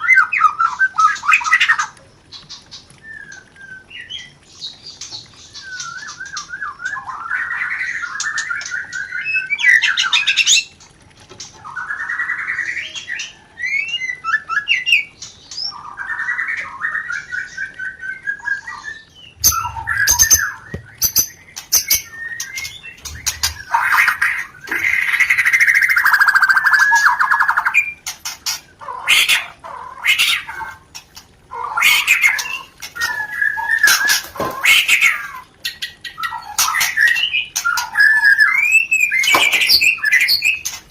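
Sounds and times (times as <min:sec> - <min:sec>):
bird song with rattling trills: 0:00.0 - 0:10.8, 0:11.4 - 0:40.9.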